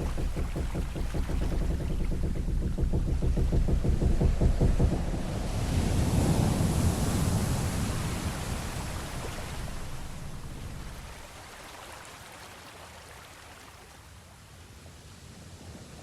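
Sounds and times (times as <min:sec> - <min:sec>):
sea waves washing: 0:00.0 - 0:13.9.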